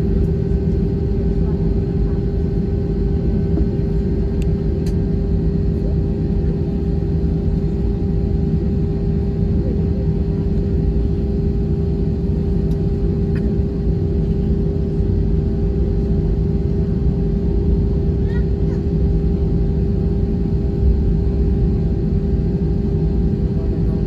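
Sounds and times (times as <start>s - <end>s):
airplane cabin engine rumble: 0.0s - 24.0s
constant hum: 0.0s - 24.0s.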